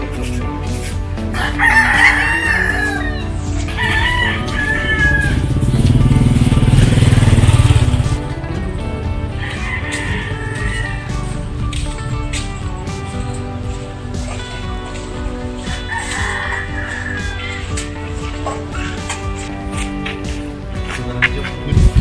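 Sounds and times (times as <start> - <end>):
background music: 0.0 - 22.0
roosters crowing: 1.2 - 20.6.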